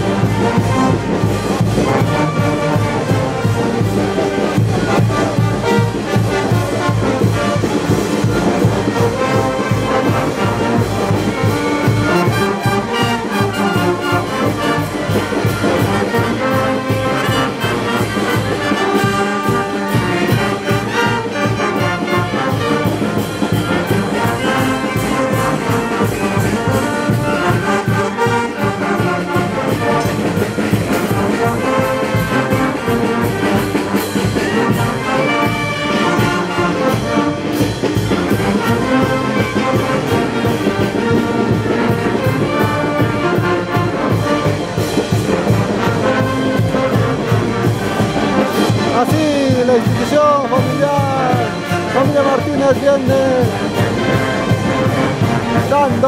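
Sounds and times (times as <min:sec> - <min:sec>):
brass band playing: 0:00.0 - 0:56.0.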